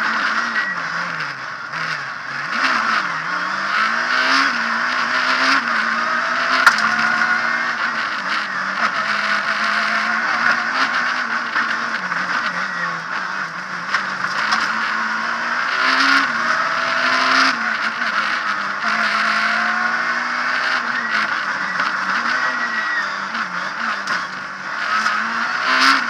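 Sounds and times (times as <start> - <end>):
rally car engine revving: 0.0 - 26.0
road and drivetrain noise: 0.0 - 26.0.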